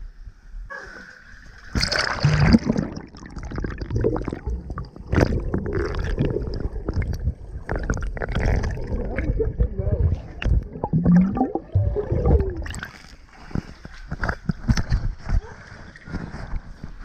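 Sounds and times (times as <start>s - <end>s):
water splashing and sloshing: 1.1s - 17.0s.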